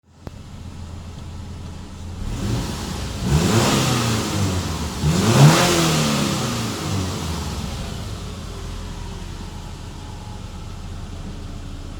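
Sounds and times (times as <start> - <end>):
car engine idling and revving: 0.1 - 11.9.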